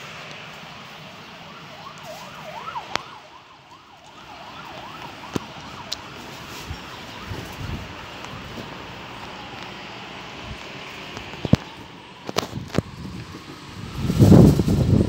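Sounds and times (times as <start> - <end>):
emergency siren wailing: 0.0 - 15.0
gusty wind through trees: 0.0 - 15.0.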